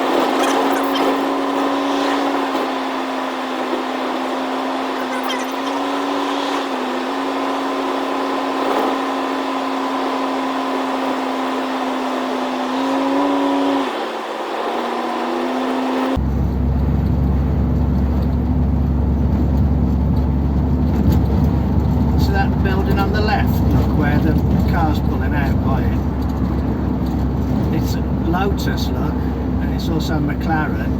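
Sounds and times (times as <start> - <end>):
car engine from inside cabin: 0.0 - 30.9.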